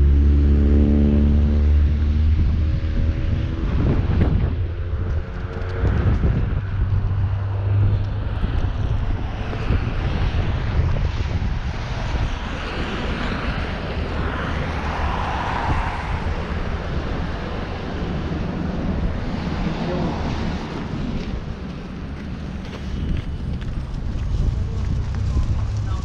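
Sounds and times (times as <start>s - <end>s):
vehicle passing by: 0.0s - 26.0s.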